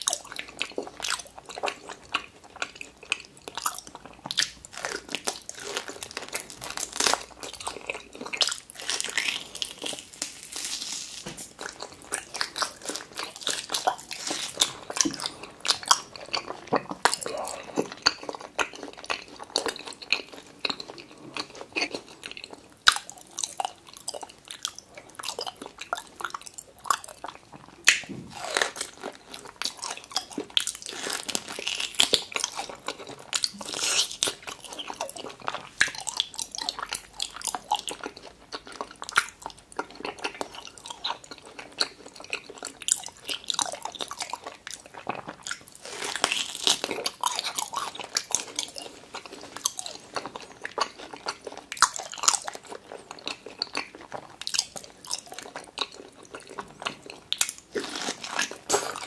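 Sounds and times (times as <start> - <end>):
person chewing wetly: 0.0 - 59.0.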